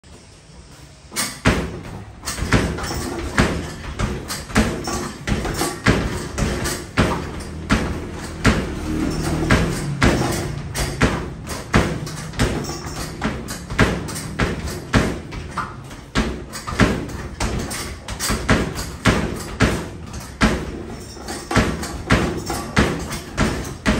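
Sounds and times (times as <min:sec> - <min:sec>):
basketballs thudding on backboard: 0:01.4 - 0:23.9.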